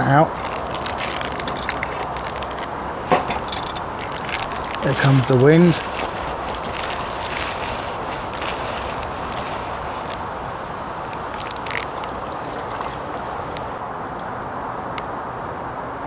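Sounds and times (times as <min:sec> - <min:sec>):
wind blowing: 0:00.0 - 0:13.8.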